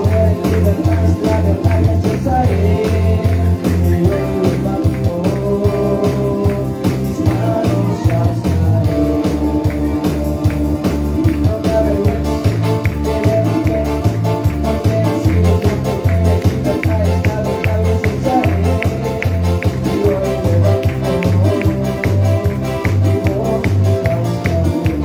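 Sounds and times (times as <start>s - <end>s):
worship band music with singing: 0.0s - 25.0s.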